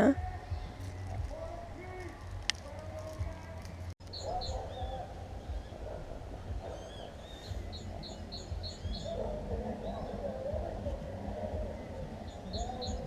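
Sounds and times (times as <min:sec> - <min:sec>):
songbirds chirping: 0:00.0 - 0:13.0
steady low rumble: 0:00.0 - 0:13.0.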